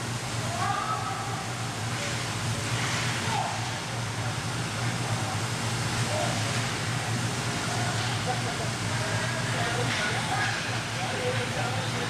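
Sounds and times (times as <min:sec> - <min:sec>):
steady low hum: 0:00.0 - 0:12.0
faint voices: 0:00.4 - 0:12.0.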